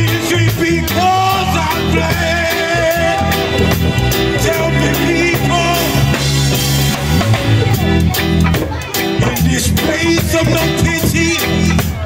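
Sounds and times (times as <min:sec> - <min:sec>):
bass guitar: 0:00.0 - 0:12.0
drum kit: 0:00.0 - 0:12.0
electric guitars: 0:00.0 - 0:12.0
keyboard: 0:00.0 - 0:12.0.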